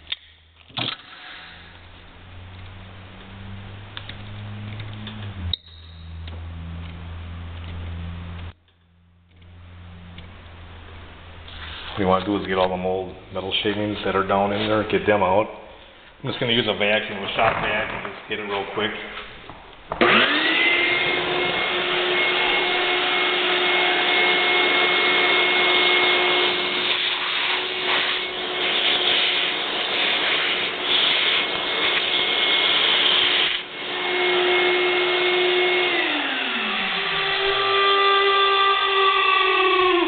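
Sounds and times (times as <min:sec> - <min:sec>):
shop vac motor whining: 0:00.1 - 0:13.6, 0:18.0 - 0:40.0.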